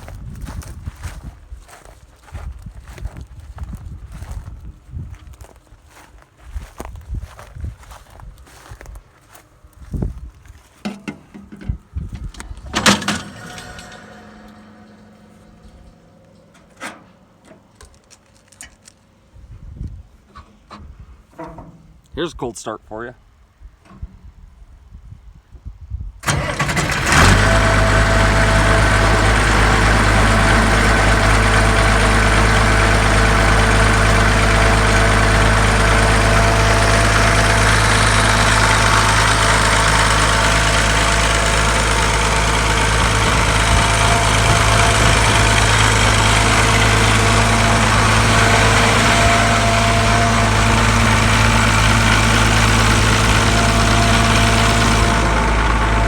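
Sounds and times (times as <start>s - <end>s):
engine cranking and idling: 0.0s - 19.3s, 26.2s - 56.0s.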